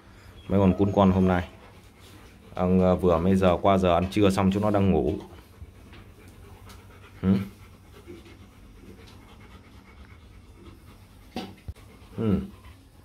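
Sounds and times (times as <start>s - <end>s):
puppy panting: 0.1s - 13.0s.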